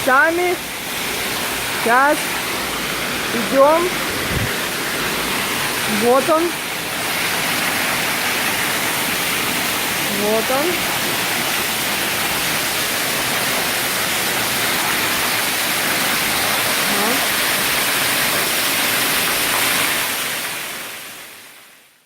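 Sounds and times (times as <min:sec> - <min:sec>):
waterfall rushing: 0:00.0 - 0:21.4.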